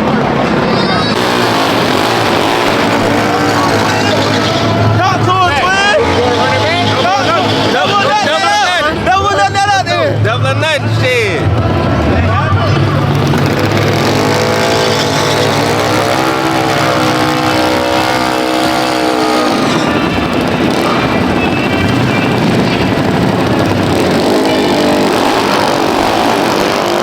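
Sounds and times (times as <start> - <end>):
loud vehicle engine running: 0.0 - 27.0.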